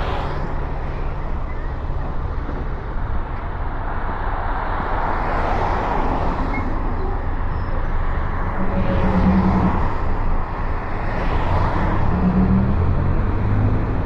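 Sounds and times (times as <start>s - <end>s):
vehicle road noise: 0.0s - 14.0s.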